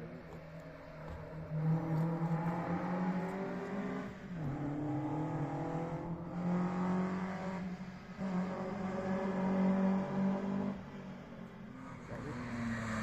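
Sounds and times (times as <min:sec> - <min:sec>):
rally car engine revving: 0:01.3 - 0:11.0, 0:11.8 - 0:13.0.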